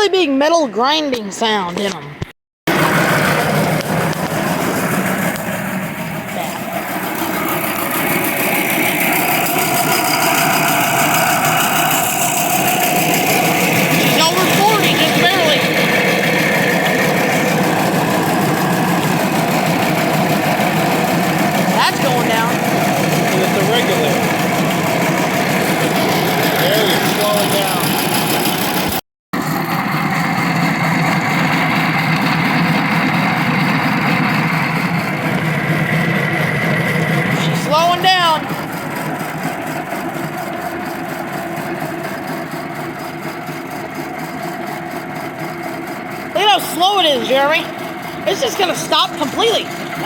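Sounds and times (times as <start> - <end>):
air compressor running: 2.7 - 50.0
metal grinding: 2.7 - 50.0.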